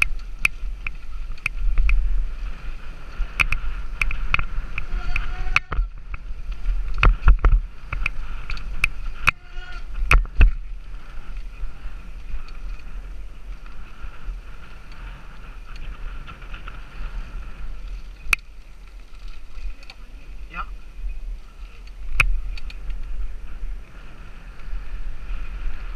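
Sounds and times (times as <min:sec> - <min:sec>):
wind rush: 0:00.0 - 0:18.7, 0:19.4 - 0:25.9
bike rattling over bumps: 0:00.0 - 0:25.9.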